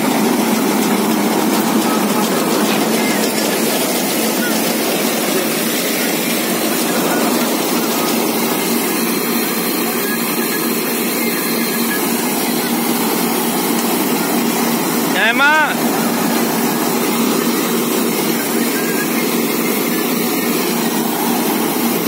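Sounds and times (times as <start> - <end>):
combine harvester humming: 0.0 - 22.0.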